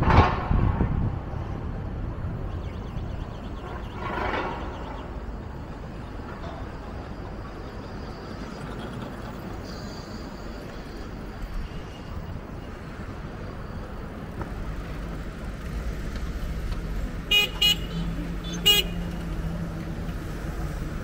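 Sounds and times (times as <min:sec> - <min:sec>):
wind rumbling on microphone: 0:00.0 - 0:17.2
street noise: 0:00.0 - 0:21.0.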